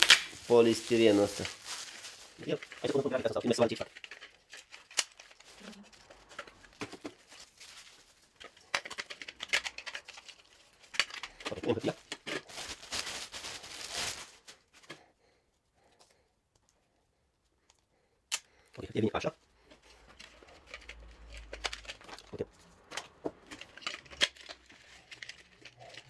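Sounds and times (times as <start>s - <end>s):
plastic wrapping crinkling and tearing: 0.0s - 14.8s, 19.8s - 26.0s.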